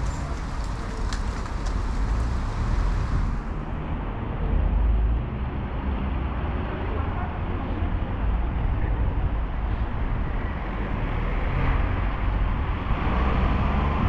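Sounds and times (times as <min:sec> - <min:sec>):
traffic rumble on wet street: 0:00.0 - 0:14.0.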